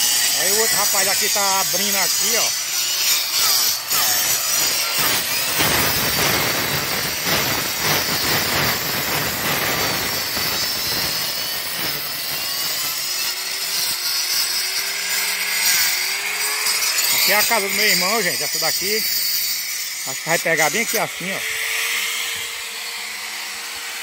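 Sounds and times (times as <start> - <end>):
masonry saw cutting cement: 0.0 - 24.0.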